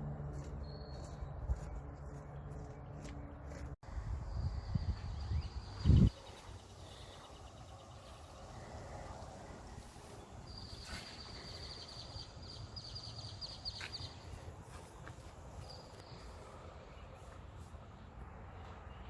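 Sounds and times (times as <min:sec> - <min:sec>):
outdoor ambience: 0:00.0 - 0:19.0.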